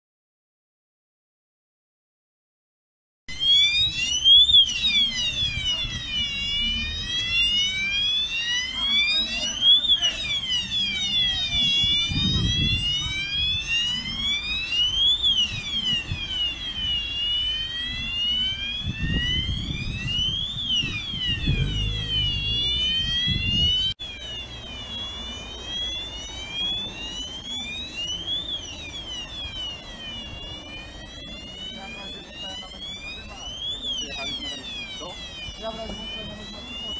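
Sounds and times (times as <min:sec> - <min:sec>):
electronic alarm siren wailing: 0:03.3 - 0:36.9.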